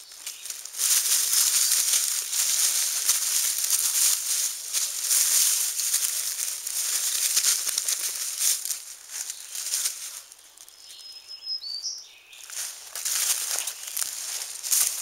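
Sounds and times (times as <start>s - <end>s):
dry leaves crackling and rustling: 0.0s - 11.1s, 12.4s - 15.0s.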